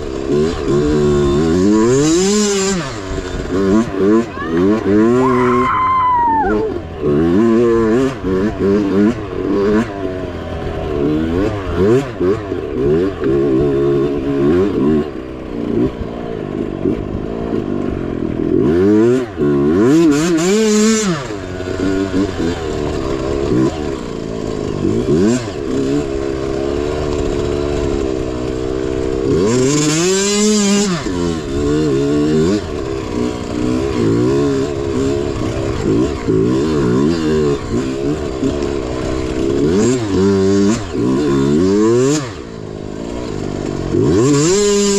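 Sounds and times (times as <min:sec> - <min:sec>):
mini bike engine revving: 0:00.0 - 0:44.9.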